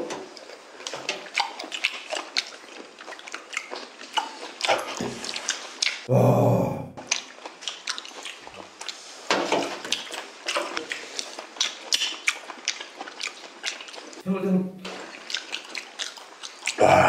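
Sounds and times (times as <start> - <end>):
wet chewing clicks and smacks: 0.2 - 6.1, 7.0 - 14.2, 14.8 - 16.8.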